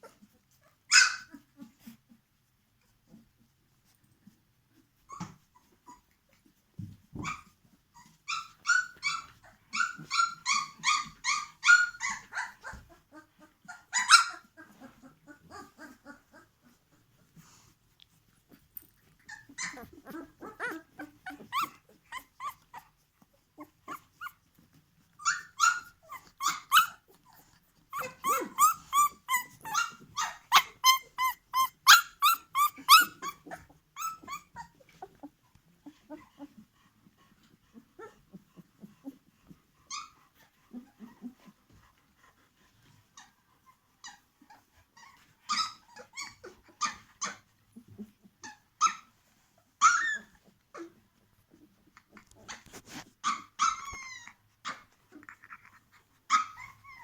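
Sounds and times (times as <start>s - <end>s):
puppies squealing and whining: 0.0s - 2.1s, 4.2s - 17.7s, 18.4s - 57.0s.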